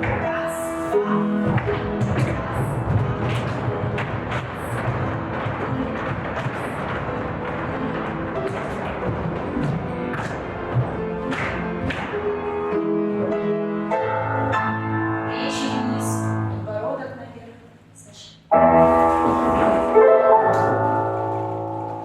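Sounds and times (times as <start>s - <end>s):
piano music: 0.0s - 17.2s, 18.5s - 22.0s.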